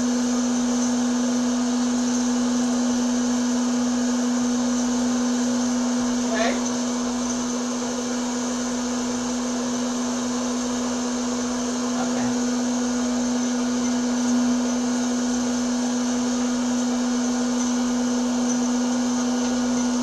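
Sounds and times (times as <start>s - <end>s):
popcorn maker motor hum: 0.0s - 20.0s.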